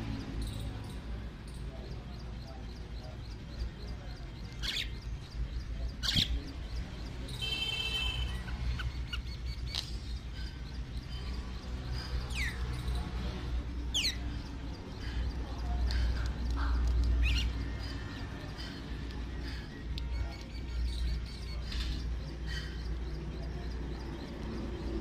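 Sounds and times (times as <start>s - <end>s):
birds calling: 1.6s - 25.0s.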